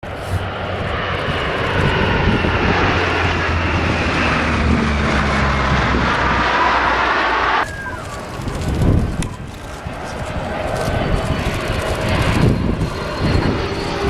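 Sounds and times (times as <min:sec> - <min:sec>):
turboprop engines roaring: 0:00.0 - 0:14.0.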